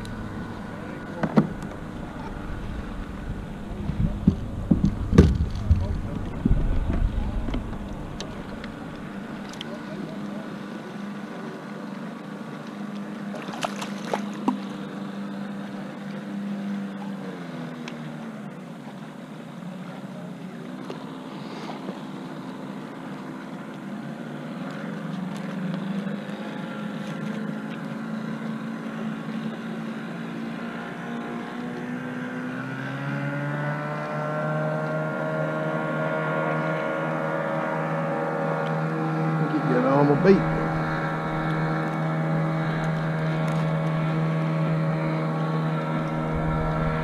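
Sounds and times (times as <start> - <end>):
motorboat engine droning: 0.0 - 47.0.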